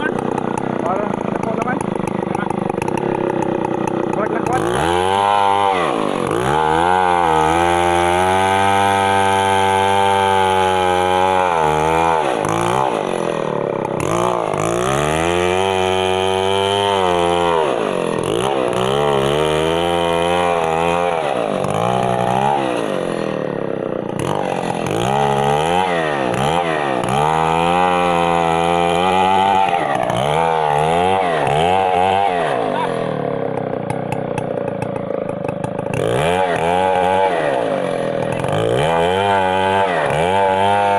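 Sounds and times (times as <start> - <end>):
chainsaw running hard: 0.0 - 40.9.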